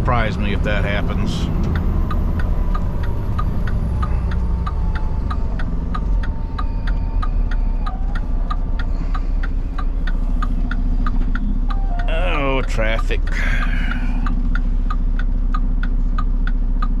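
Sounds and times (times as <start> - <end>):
engine and road rumble: 0.0 - 17.0
turn signal ticking: 0.0 - 17.0.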